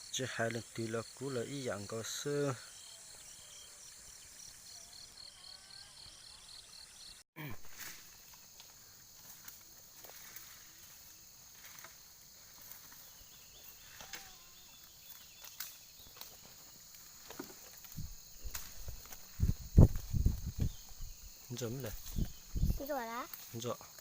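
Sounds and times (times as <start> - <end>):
high insect hum: 0.0 - 24.0
insects chirping: 0.0 - 24.0.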